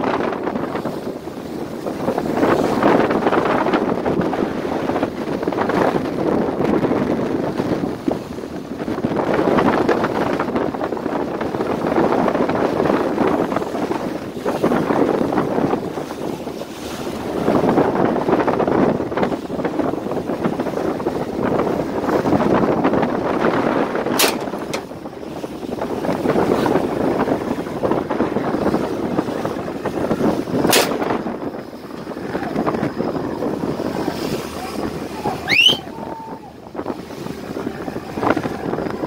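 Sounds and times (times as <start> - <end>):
water rushing past boat hull: 0.0 - 39.0
wind buffeting microphone: 0.0 - 39.0.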